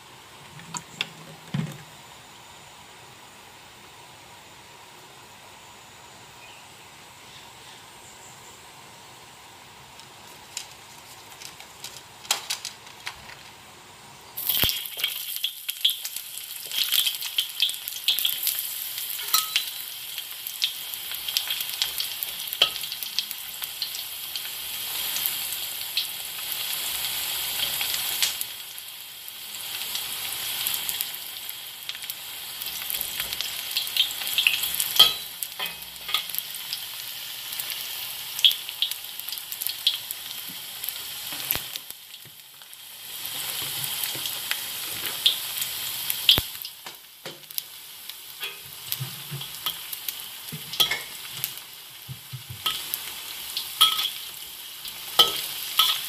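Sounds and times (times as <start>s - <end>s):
ginger sizzling in hot oil: 8.7s - 56.0s.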